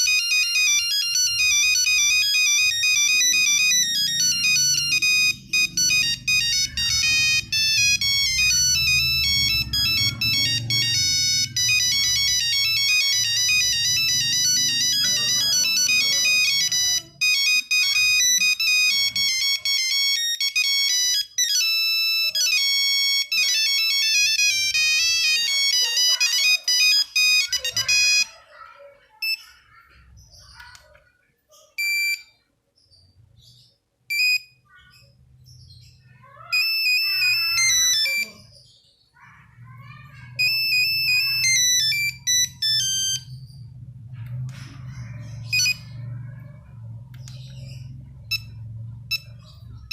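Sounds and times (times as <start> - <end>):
monophonic phone ringtone: 0.0 - 29.7, 31.6 - 32.4, 34.1 - 35.1, 35.8 - 38.6, 39.6 - 49.9.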